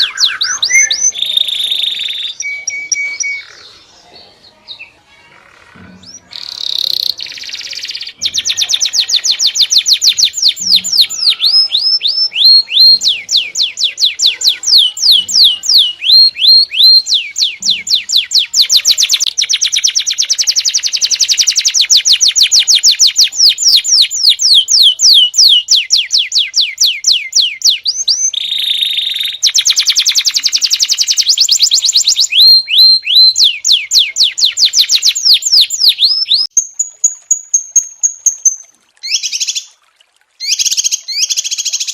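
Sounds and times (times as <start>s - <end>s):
songbird trilling: 0.0s - 4.0s, 4.7s - 39.7s.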